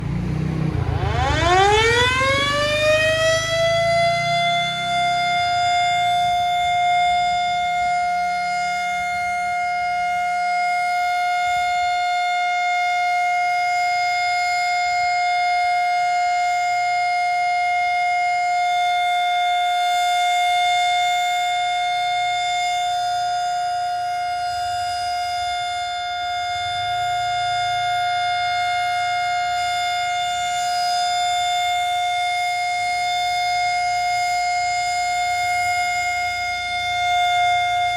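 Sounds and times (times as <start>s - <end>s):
warning siren steady tone: 0.0s - 37.9s.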